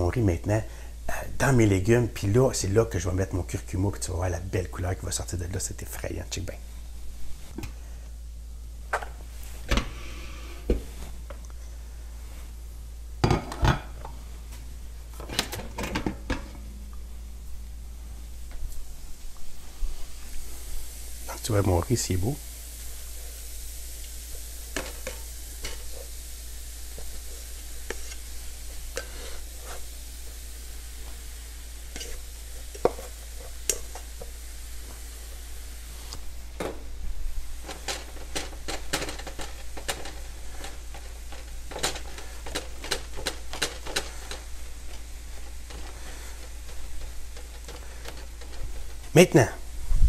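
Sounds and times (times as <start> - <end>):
frying sizzle: 0.0 - 50.0.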